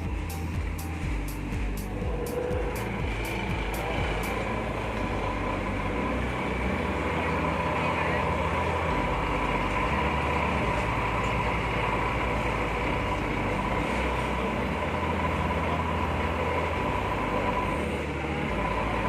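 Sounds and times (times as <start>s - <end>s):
excavator engine running: 0.0s - 19.0s
high mechanical whine: 0.0s - 19.0s.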